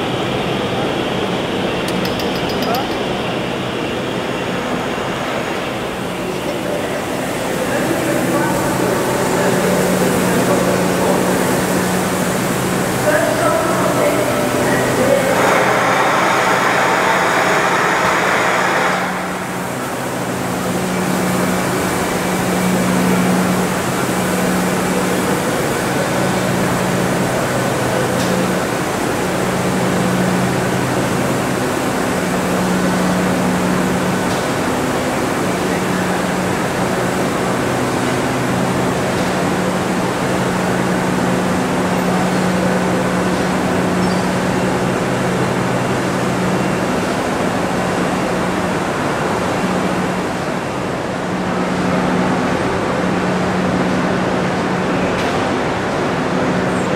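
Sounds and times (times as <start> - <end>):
train wheels rumbling on rail: 0.0 - 56.9.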